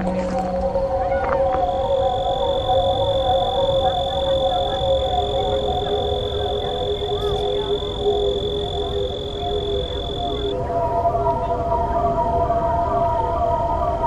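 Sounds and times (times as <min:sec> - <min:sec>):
steady high-pitched whine: 0:00.0 - 0:14.0
wavering droning tones: 0:00.0 - 0:14.0.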